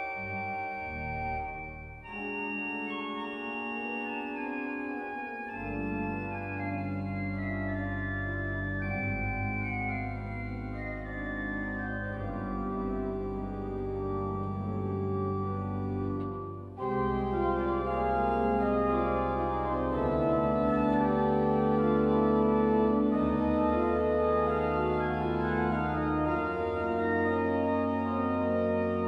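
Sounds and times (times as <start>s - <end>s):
deep organ bass line: 0.0s - 3.4s, 4.0s - 29.0s
pipe organ chords: 0.0s - 29.0s.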